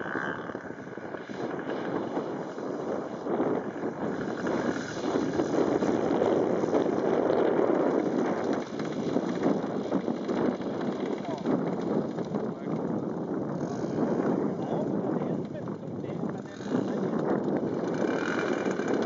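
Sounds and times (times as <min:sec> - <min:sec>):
model plane engine drone: 0:00.0 - 0:19.0
wind buffeting microphone: 0:00.0 - 0:19.0.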